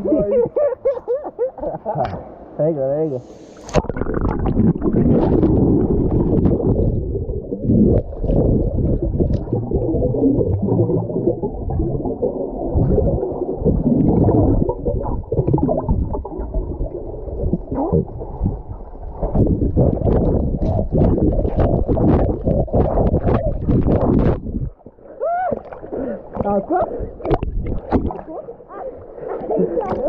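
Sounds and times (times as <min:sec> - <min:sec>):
underwater water gurgling: 0:03.3 - 0:30.0.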